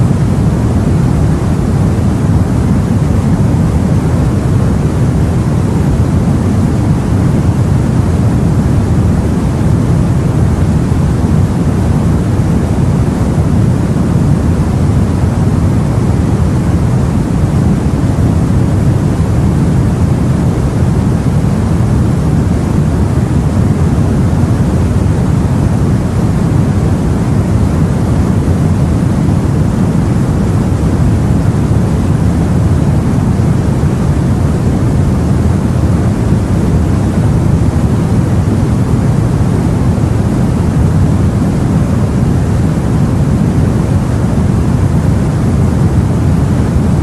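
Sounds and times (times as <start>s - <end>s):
low noise of the sea: 0.0s - 47.0s.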